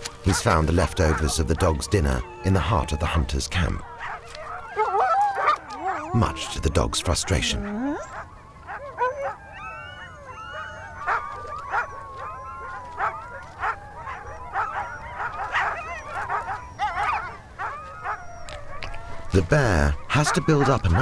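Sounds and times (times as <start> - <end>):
dogs yelping and whining: 0.0 - 21.0
dog long howl: 0.4 - 21.0.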